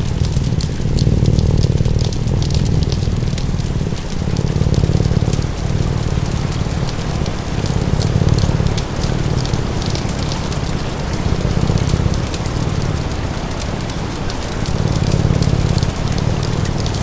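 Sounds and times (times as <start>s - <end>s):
cat purring: 0.0s - 17.0s
fire crackling and popping: 0.0s - 17.0s
steady rain: 0.0s - 17.0s.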